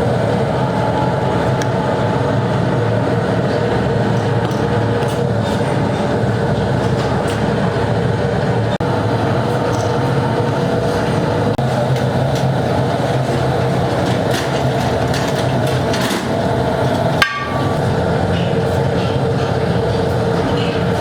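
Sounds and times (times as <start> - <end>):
workshop machinery droning: 0.0 - 21.0.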